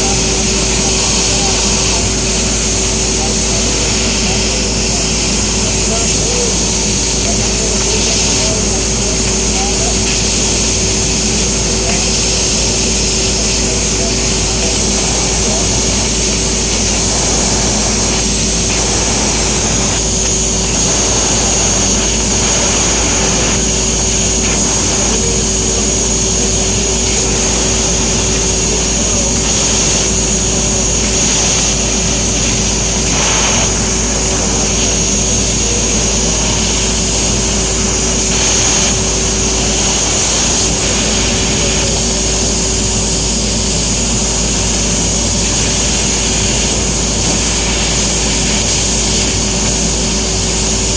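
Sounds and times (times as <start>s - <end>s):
laser cutter whining and humming: 0.0s - 50.9s.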